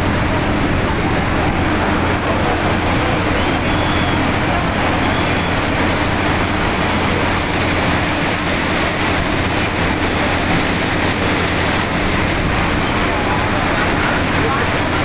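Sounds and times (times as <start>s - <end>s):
bus engine hum: 0.0s - 15.0s
floodwater rushing: 0.0s - 15.0s.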